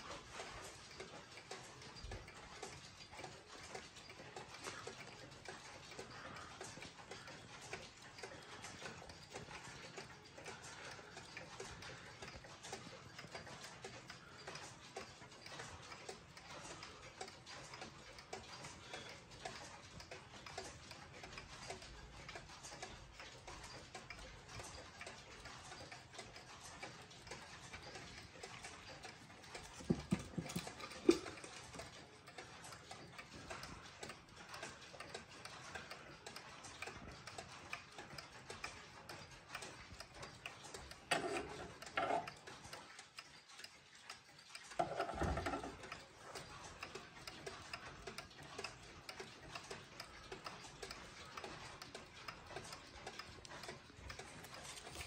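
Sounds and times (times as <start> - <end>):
pendulum wall clock ticking: 0.0 - 55.0.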